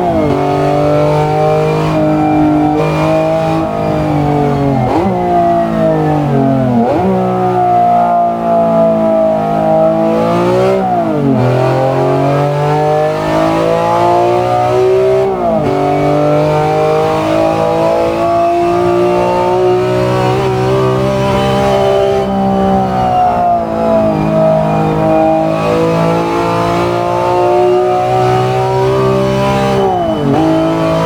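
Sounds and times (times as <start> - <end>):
car engine running under load: 0.0 - 31.0.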